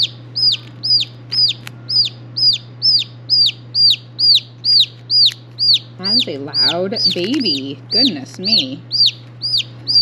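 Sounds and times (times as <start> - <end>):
chick peeping: 0.0 - 10.0.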